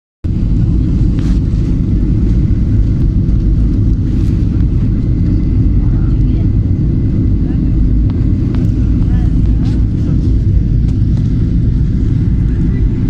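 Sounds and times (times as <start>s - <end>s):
jet engines low rumble: 0.2s - 13.0s.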